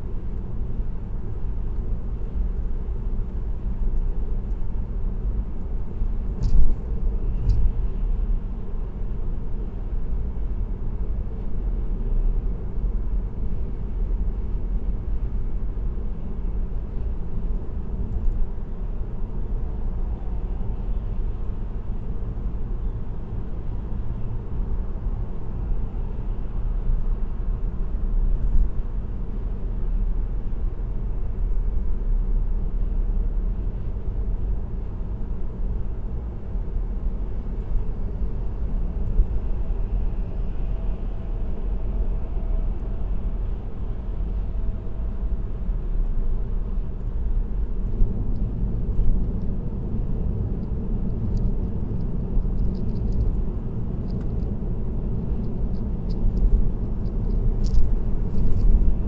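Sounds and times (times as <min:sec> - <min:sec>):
car engine drone: 0:00.0 - 0:59.0
tyre and road noise: 0:00.0 - 0:59.0.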